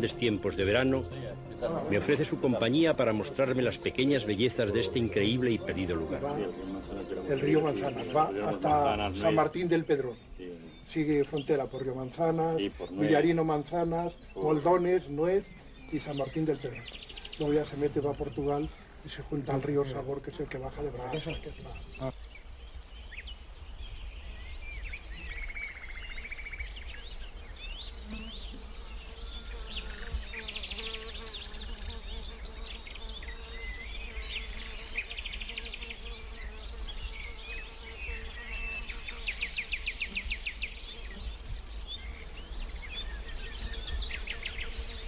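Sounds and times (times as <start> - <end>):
insects buzzing: 0.0 - 45.0
small birds chirping: 0.0 - 45.0.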